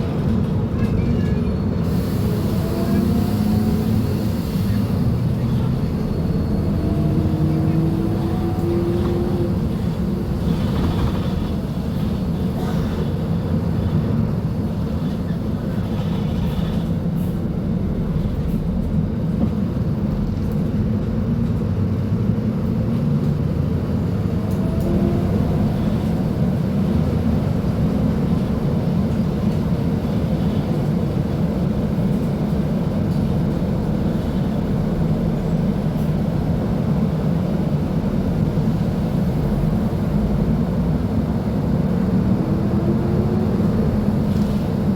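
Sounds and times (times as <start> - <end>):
bus diesel engine rumbling: 0.0 - 44.9.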